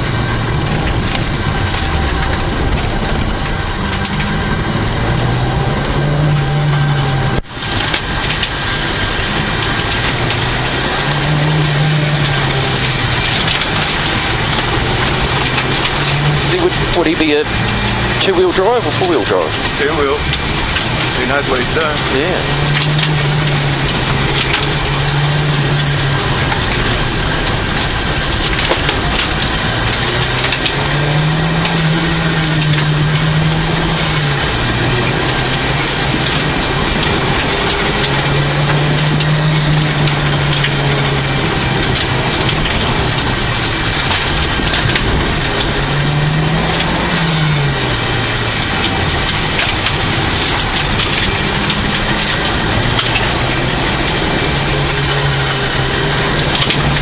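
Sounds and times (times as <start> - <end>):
rally car engine revving: 0.0 - 57.0
tyres on gravel: 0.0 - 57.0.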